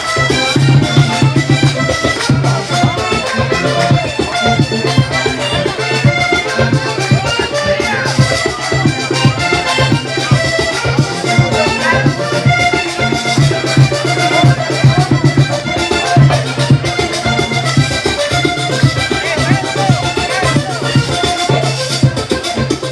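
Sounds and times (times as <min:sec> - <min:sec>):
button accordion melody: 0:00.0 - 0:22.9
hand drum strokes: 0:00.0 - 0:22.9.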